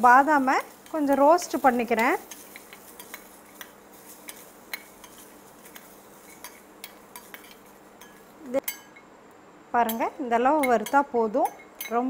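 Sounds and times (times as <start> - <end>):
steel spoon clinking on pan: 0.4 - 9.0, 9.9 - 12.0.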